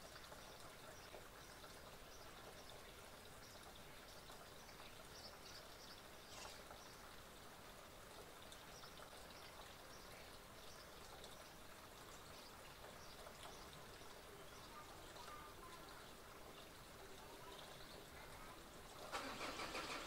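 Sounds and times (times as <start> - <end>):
small birds twittering: 0.0 - 19.2
faint steady hiss: 0.0 - 20.0.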